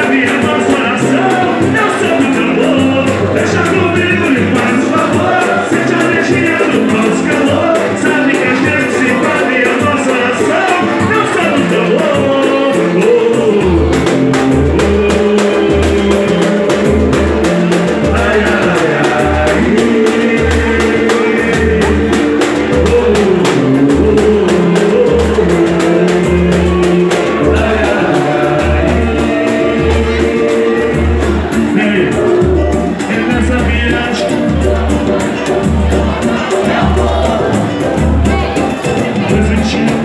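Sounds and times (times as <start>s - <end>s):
deep drum steady beat: 0.0s - 40.0s
hand percussion: 0.0s - 40.0s
man singing into microphone: 0.0s - 40.0s
strummed small guitars: 0.0s - 40.0s.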